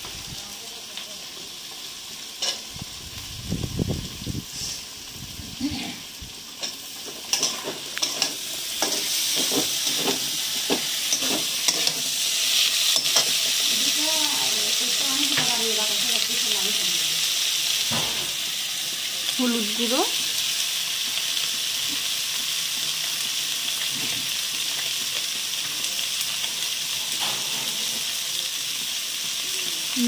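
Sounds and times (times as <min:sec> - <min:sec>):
oil sizzling: 0:00.0 - 0:30.0.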